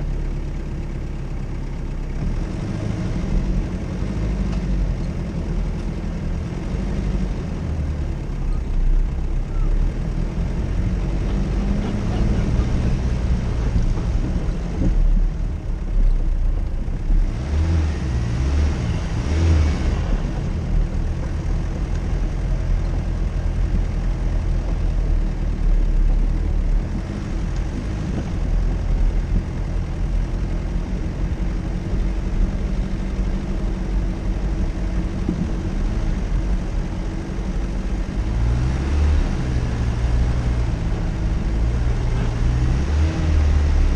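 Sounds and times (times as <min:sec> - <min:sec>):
off-road vehicle engine rumbling: 0:00.0 - 0:43.9.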